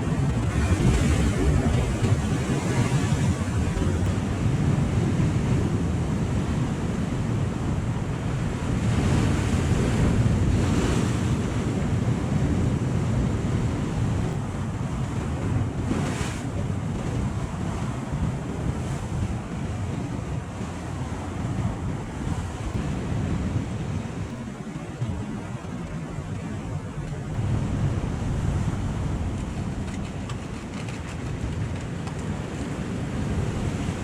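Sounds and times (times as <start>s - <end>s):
sea waves washing: 0.0s - 34.0s
wind buffeting microphone: 0.0s - 34.0s.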